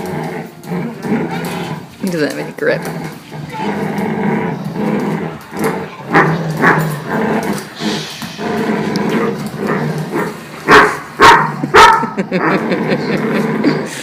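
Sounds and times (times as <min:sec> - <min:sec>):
dog growling in play: 0:00.0 - 0:14.0.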